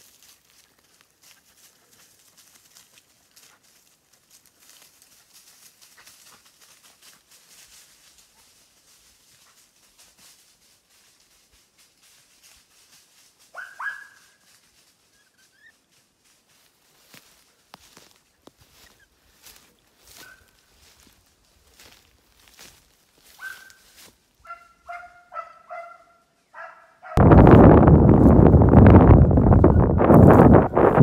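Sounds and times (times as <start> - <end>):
rustling grass and undergrowth: 0.0 - 25.8, 27.2 - 31.0.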